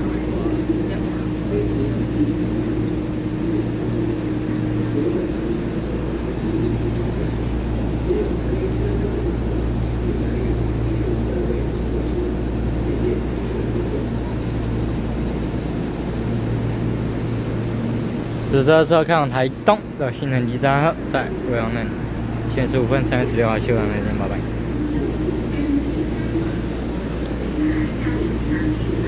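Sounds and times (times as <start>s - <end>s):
platform background din: 0.0s - 29.0s
train equipment humming: 0.0s - 29.0s.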